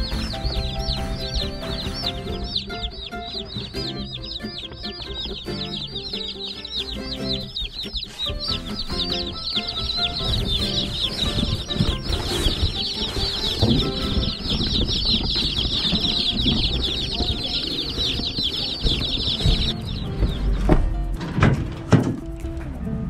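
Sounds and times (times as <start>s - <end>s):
chicks peeping: 0.0s - 22.5s.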